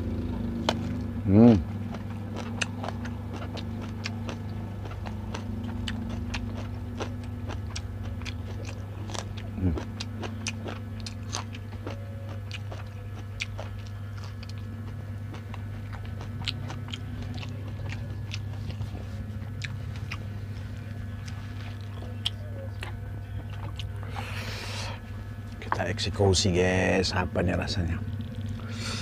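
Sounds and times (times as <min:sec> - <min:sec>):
person chewing and crunching food: 0:00.0 - 0:25.9, 0:28.0 - 0:29.0
steady low hum: 0:00.0 - 0:29.0.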